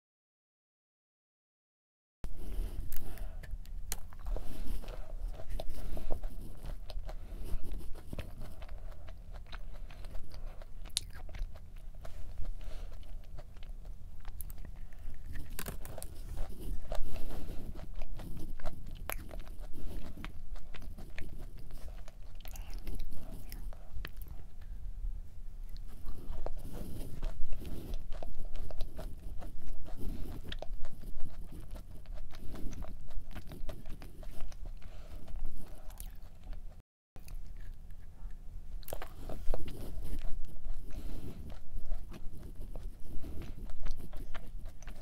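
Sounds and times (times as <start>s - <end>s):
cookie crunching while chewing: 2.7s - 24.7s, 25.6s - 45.0s.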